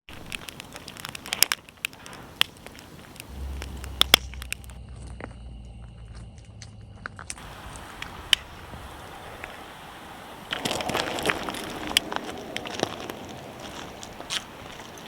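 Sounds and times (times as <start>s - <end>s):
campfire crackling and popping: 0.1s - 5.4s, 6.2s - 15.0s
low steady hum: 2.6s - 15.0s.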